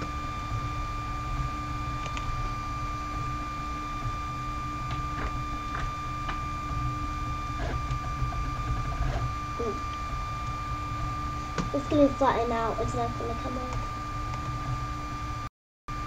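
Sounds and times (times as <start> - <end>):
printer stepper motors whining: 0.0 - 15.4.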